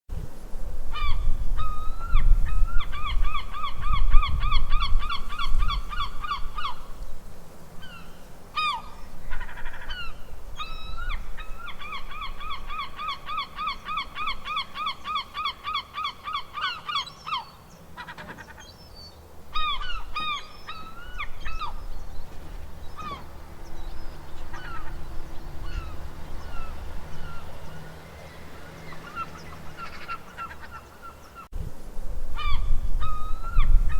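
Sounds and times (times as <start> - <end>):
seagulls squawking: 1.0 - 6.9, 7.8 - 31.5.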